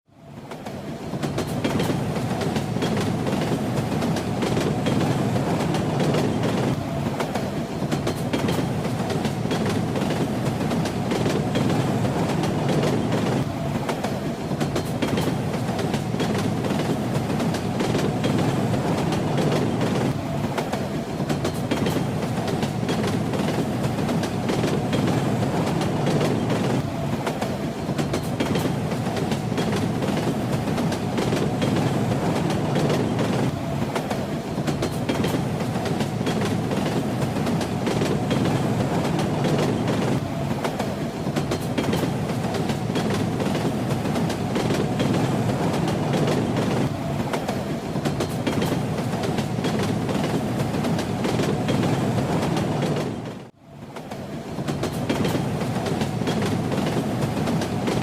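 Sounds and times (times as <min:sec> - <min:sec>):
train rumbling: 0:00.1 - 0:58.0.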